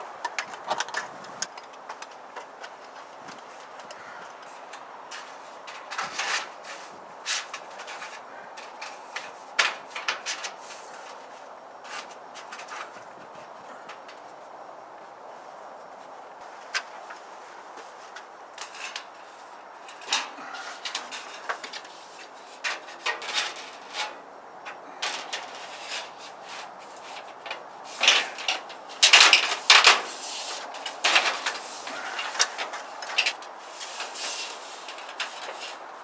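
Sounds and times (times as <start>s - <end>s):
panel scraping and rattling: 0.0s - 14.2s, 17.9s - 36.0s.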